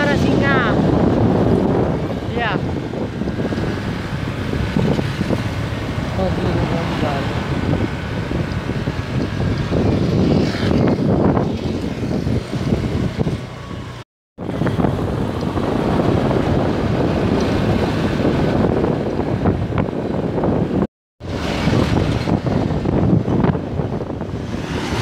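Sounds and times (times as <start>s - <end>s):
vehicle road and engine noise: 0.0s - 25.0s
wind buffeting microphone: 0.0s - 25.0s.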